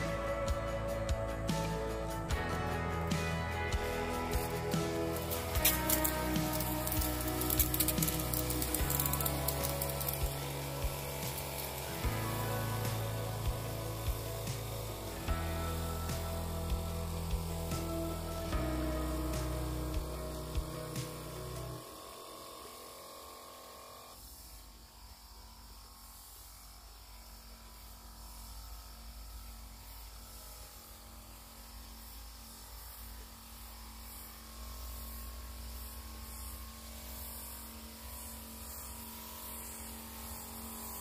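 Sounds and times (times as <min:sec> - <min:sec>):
sprayer hissing mist: 0:00.0 - 0:41.0.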